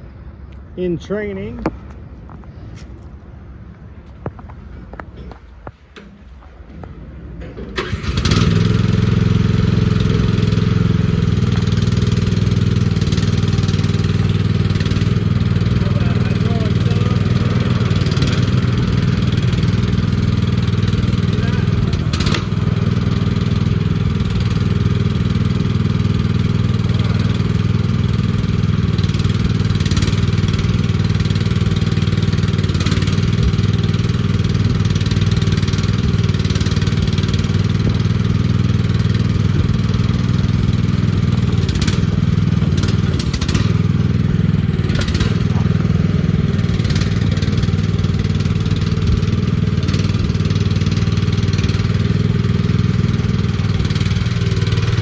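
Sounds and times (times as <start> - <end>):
mini excavator engine running: 4.6 - 55.0.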